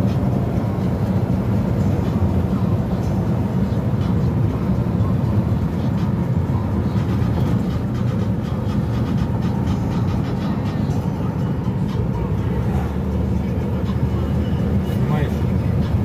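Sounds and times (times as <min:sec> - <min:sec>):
car driving on asphalt: 0:00.0 - 0:16.0.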